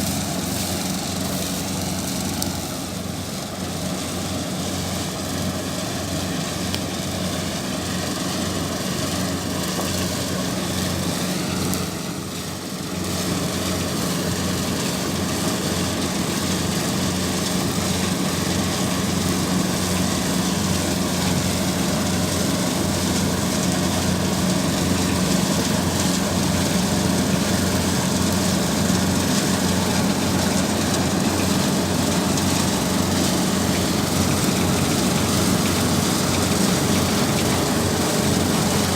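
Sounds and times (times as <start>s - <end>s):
engine humming: 0.0s - 38.9s.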